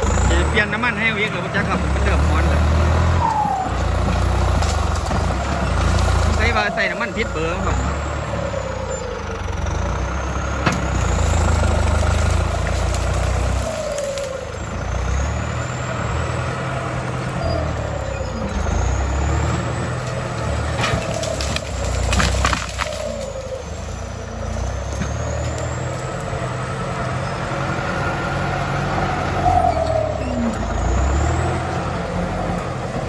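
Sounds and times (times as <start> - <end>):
tractor diesel engine rumbling: 0.0 - 33.0.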